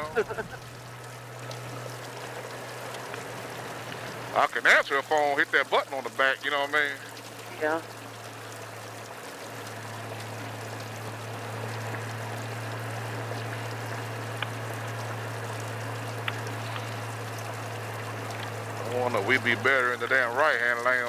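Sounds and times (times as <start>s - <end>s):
low engine drone: 0.0s - 21.0s
wind and rain on helmet: 0.0s - 21.0s.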